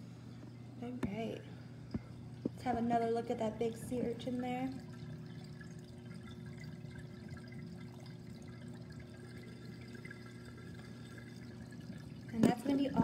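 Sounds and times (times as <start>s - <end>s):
low even hum: 0.0s - 13.0s
water trickling and splashing: 1.8s - 13.0s.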